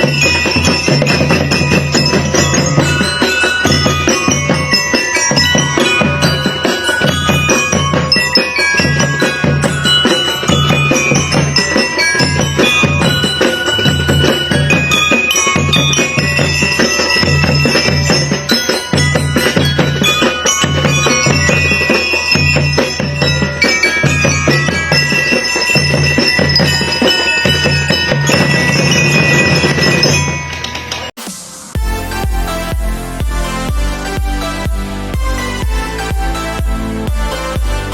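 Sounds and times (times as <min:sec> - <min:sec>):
bright melody over bass beat: 0:00.0 - 0:37.9.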